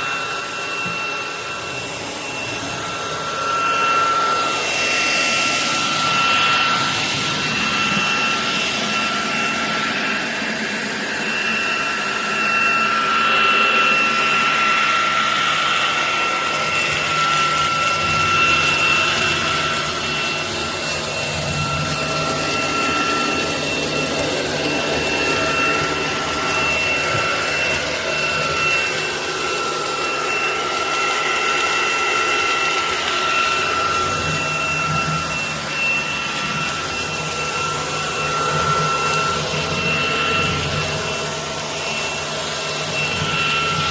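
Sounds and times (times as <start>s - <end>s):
stick vacuum running: 0.0s - 43.9s.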